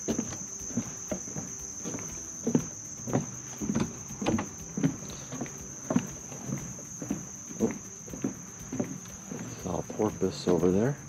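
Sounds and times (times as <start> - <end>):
footsteps on wooden boards: 0.0 - 11.0
high-pitched insect chorus: 0.0 - 11.0.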